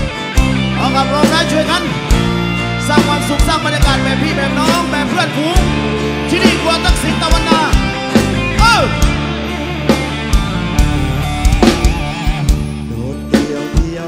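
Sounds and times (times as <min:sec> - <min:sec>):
bass line: 0:00.0 - 0:14.0
lead guitar melody with sliding notes: 0:00.0 - 0:14.0.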